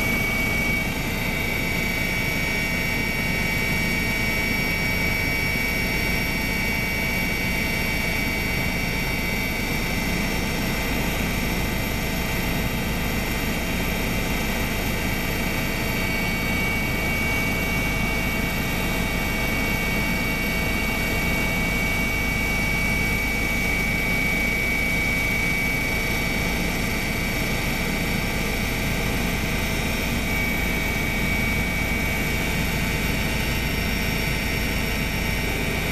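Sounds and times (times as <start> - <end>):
helicopter engine and rotor drone: 0.0 - 35.9
high steady whine: 0.0 - 35.9.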